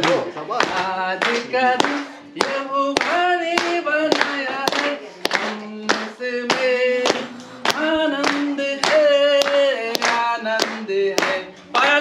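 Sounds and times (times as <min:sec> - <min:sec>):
rhythmic hand claps: 0:00.0 - 0:12.0
voices singing folk song: 0:00.0 - 0:12.0.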